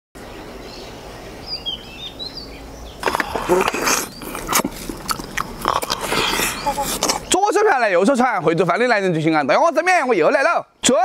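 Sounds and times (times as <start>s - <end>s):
birds chirping: 0.2s - 11.0s.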